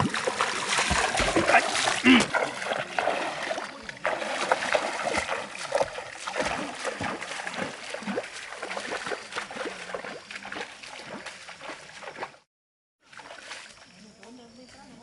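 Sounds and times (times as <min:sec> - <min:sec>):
water sloshing: 0:00.0 - 0:12.4, 0:13.0 - 0:14.0
bare feet splashing in stream: 0:00.0 - 0:14.0.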